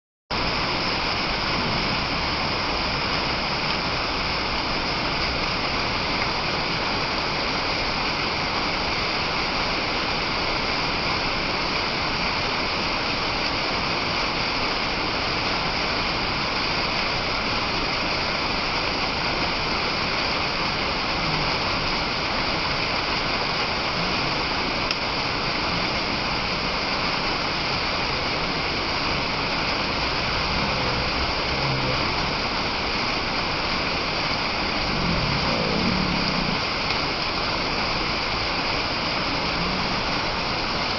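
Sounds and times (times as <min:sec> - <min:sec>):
waterfall crashing: 0:00.3 - 0:40.9.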